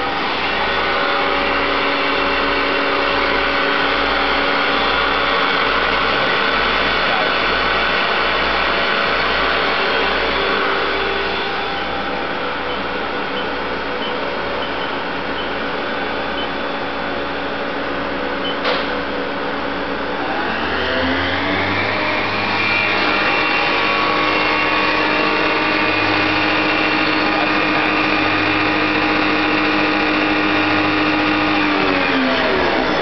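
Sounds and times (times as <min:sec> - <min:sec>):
machine hum: 0:00.0 - 0:33.0
mill spindle whine: 0:00.0 - 0:33.0.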